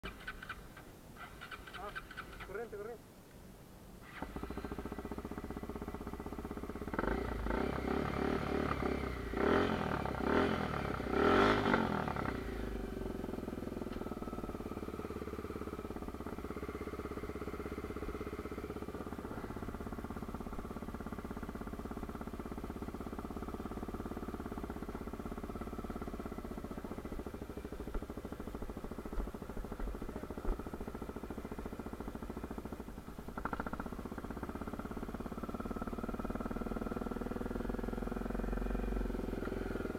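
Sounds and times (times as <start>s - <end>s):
motorcycle engine revving and idling: 0.0s - 3.0s, 4.0s - 39.9s.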